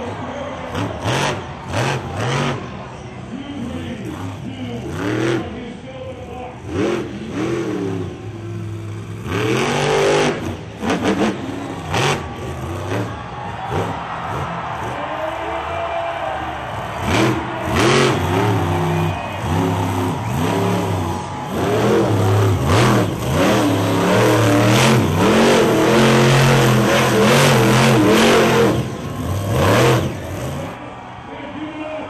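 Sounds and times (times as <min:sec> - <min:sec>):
truck engine revving hard: 0:00.6 - 0:02.8, 0:03.6 - 0:05.8, 0:06.5 - 0:15.0, 0:16.5 - 0:30.8.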